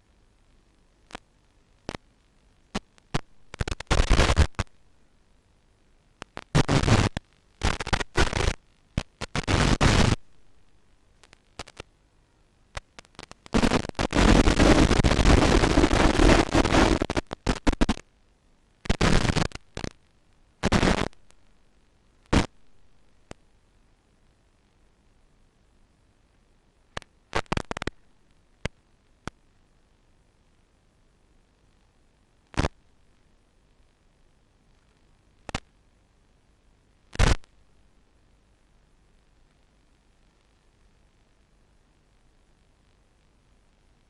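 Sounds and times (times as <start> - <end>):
static hiss and crackle: 0.0 - 44.0.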